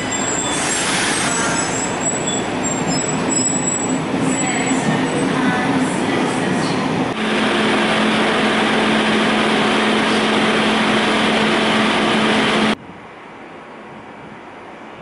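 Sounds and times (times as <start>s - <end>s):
passenger train running: 0.0s - 15.0s.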